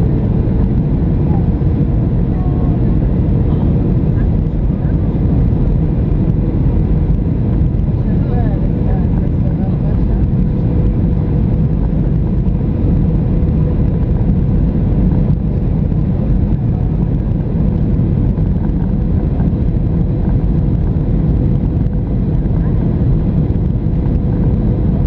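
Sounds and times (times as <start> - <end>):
jet engine rumble in cabin: 0.0 - 25.0.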